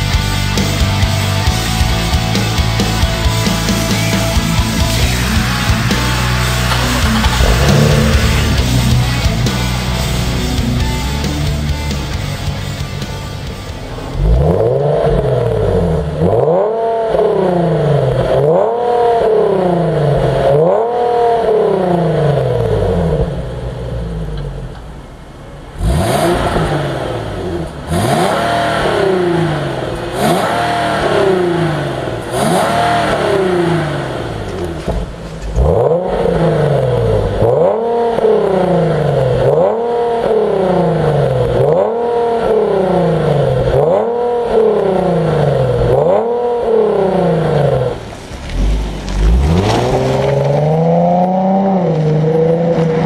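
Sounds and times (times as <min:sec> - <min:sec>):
car engine revving: 0:01.4 - 0:53.0.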